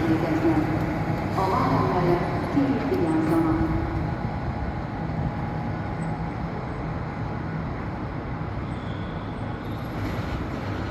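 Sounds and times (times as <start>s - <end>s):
electric locomotive rumbling: 0.0s - 10.9s.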